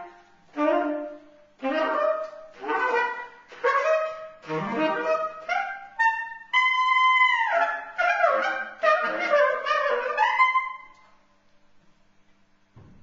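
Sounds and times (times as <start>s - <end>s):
saxophone playing: 0.0s - 11.0s.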